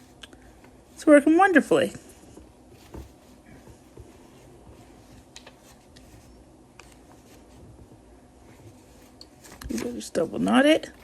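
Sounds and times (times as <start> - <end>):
soft rustling of yarn: 0.0 - 11.0.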